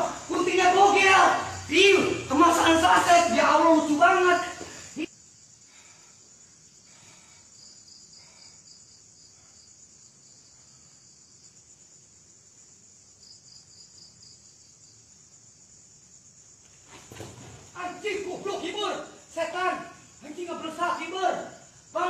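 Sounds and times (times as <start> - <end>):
crickets trilling: 0.0 - 22.0
quick insect chirps: 0.0 - 22.0.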